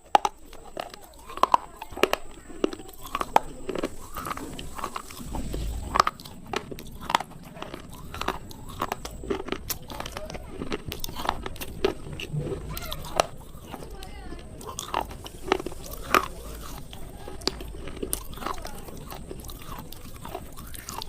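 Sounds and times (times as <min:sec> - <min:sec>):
crunching of chewed pencils: 0:00.0 - 0:21.0
soft grinding: 0:00.0 - 0:21.0.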